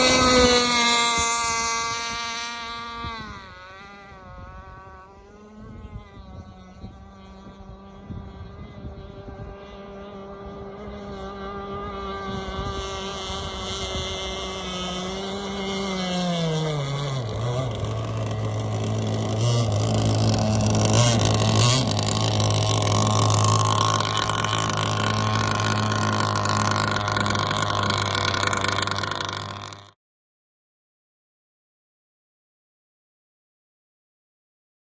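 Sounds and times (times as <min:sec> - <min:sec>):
two-stroke boat engine running: 0:00.0 - 0:30.0.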